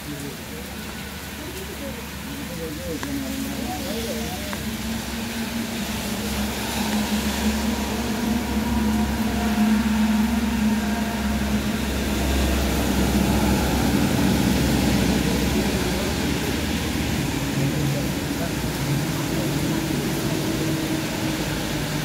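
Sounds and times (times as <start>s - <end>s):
heavy engine humming: 0.0s - 22.0s
rain falling: 0.0s - 22.0s.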